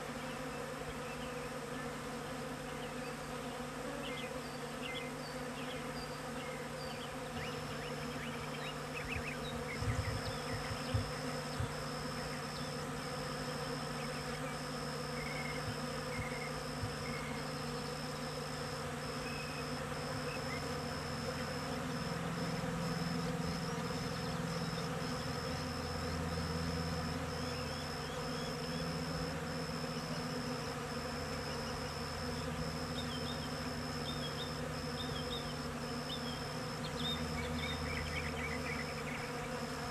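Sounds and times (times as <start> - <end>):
bee flying close: 0.0 - 39.9
bees buzzing: 0.0 - 39.9.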